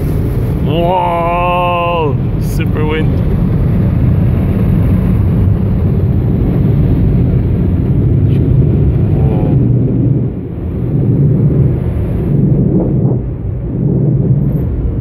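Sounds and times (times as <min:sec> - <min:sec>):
car wash machinery rumble: 0:00.0 - 0:15.0.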